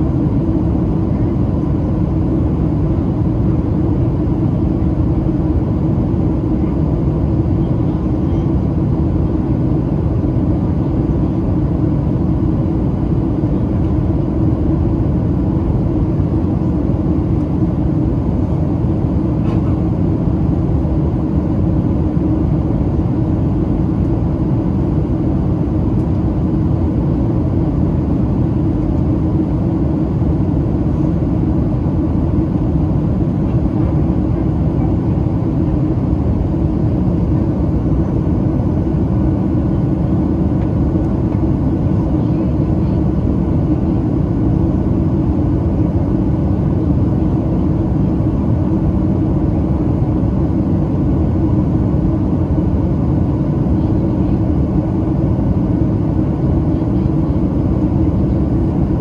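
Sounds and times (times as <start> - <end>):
jet engines humming: 0.0 - 59.0.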